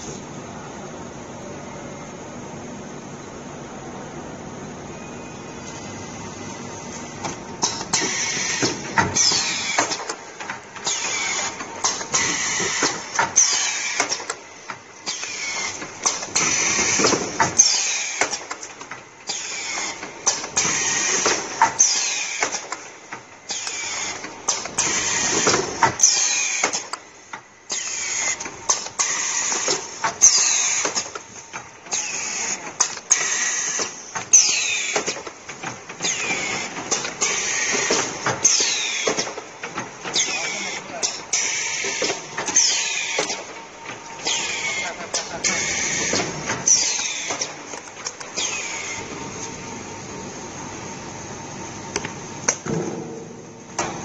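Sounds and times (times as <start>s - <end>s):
packing machine running: 3.6s - 54.0s.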